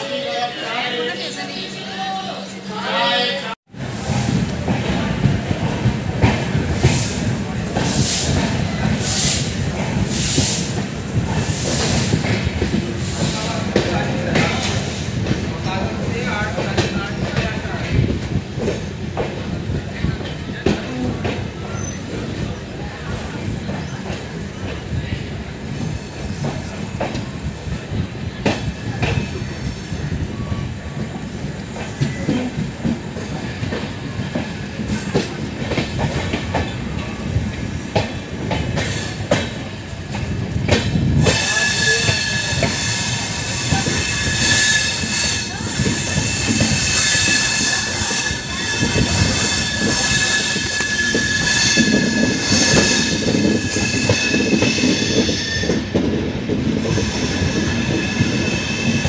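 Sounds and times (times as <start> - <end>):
train coach rumbling on track: 3.7 - 59.0
high-pitched wheel squeal: 3.9 - 56.0, 56.8 - 59.0.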